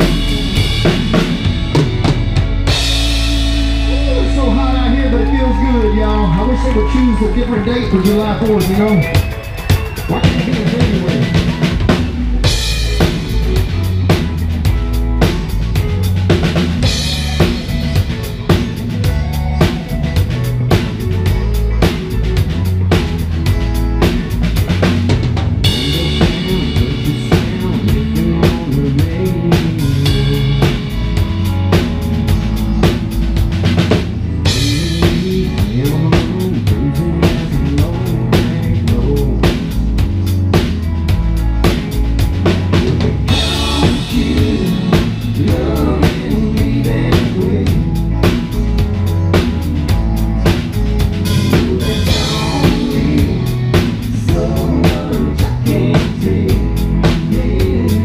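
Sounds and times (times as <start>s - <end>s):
drum kit beat: 0.0s - 58.0s
rock band playing: 0.0s - 58.0s.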